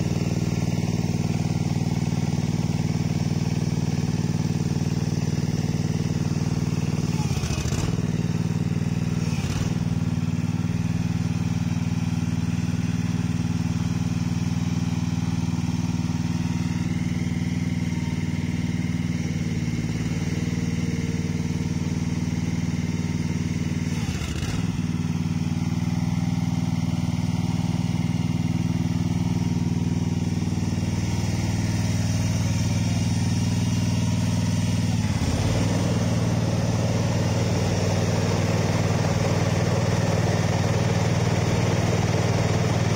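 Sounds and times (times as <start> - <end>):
small engine running steadily: 0.0 - 42.9.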